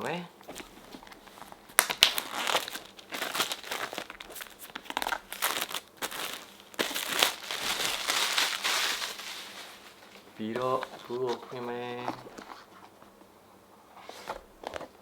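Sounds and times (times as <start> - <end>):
plastic shrink wrap crinkling: 0.0 - 13.1.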